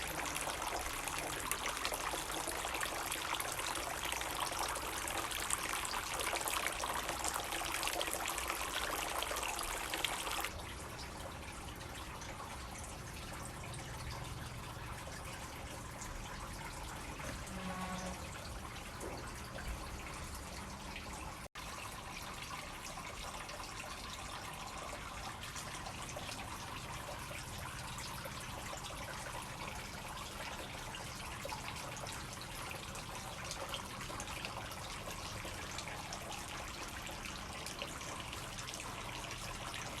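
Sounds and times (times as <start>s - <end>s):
fountain water trickling: 0.0s - 40.0s.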